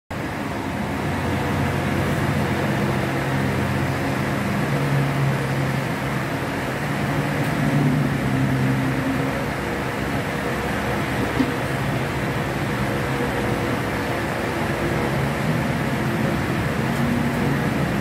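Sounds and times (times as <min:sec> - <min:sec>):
mechanical hum with hiss: 0:00.1 - 0:18.0.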